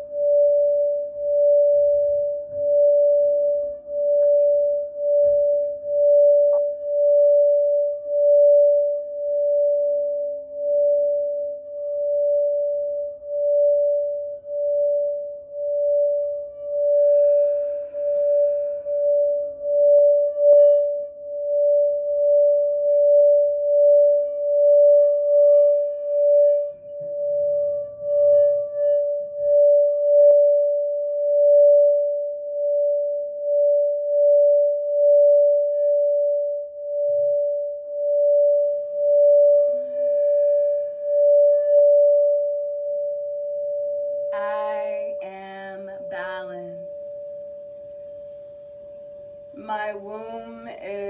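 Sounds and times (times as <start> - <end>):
singing bowl sustained tone: 0.0 - 51.0.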